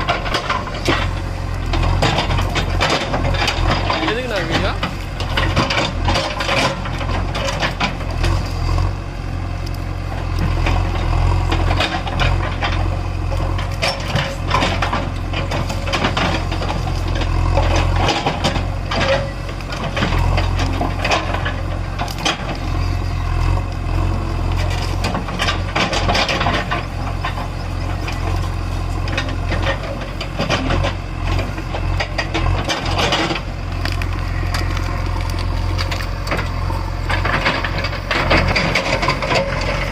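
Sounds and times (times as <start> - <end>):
machine clanks and rattles: 0.0 - 9.0, 9.6 - 39.9
diesel engine running under load: 0.0 - 39.9.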